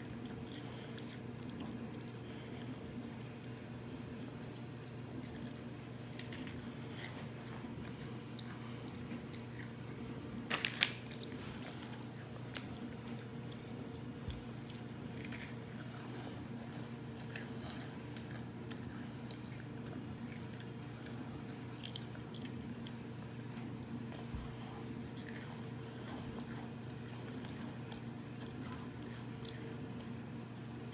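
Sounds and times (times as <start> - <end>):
cookie crunching and chewing: 0.0 - 30.9
steady low hum: 0.0 - 30.9.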